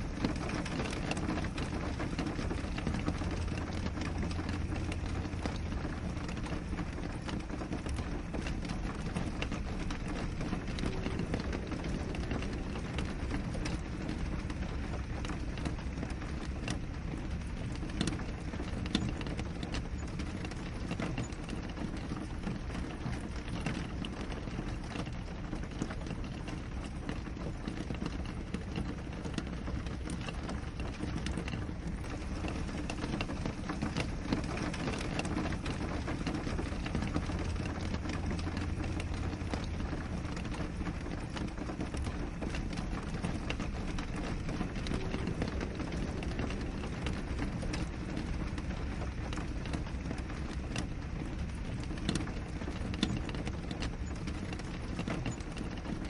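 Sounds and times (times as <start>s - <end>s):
rain on a window: 0.0s - 56.0s.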